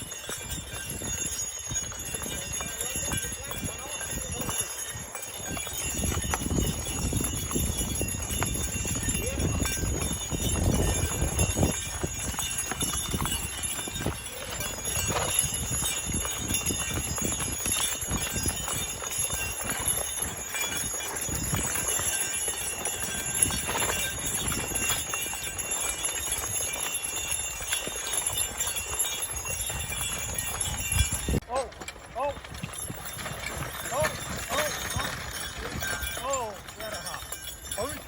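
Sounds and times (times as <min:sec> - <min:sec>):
heavy hooves thudding on field: 0:00.0 - 0:38.0.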